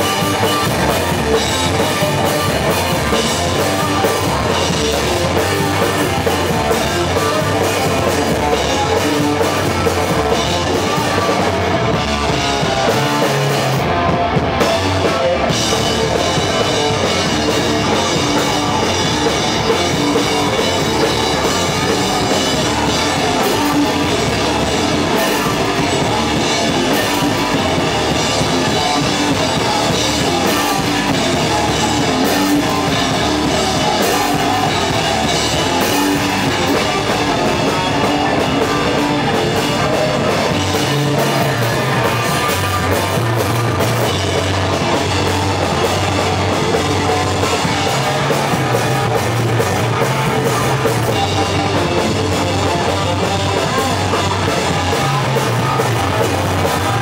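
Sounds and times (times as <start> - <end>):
drum kit: 0.0 - 57.0
electric guitar and bass riffing: 0.0 - 57.0.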